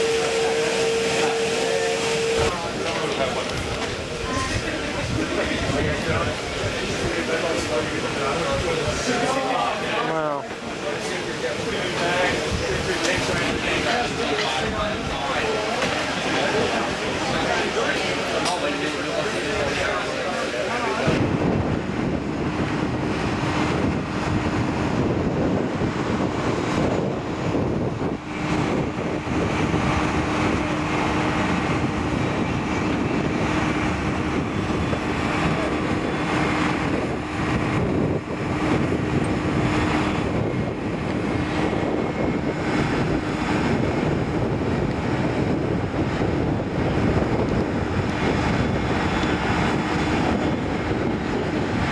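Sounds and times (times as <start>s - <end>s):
outdoor rumble: 0.0s - 51.9s
wind buffeting the microphone: 0.0s - 51.9s.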